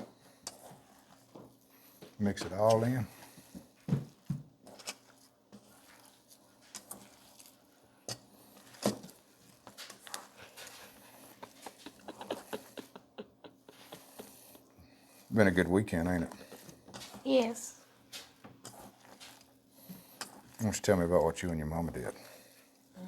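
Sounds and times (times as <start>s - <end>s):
meat mixture squishing: 0.0s - 12.6s, 13.8s - 23.0s.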